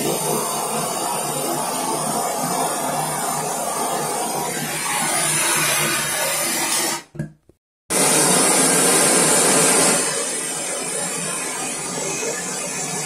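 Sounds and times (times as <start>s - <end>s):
gas torch hissing: 0.0s - 7.1s, 7.9s - 13.0s.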